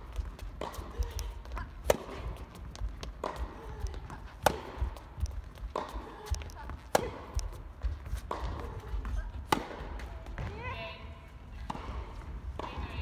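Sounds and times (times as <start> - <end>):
tennis racket hitting ball: 0.0 - 10.6, 11.6 - 13.0
tennis ball bouncing: 0.0 - 10.8, 11.6 - 13.0.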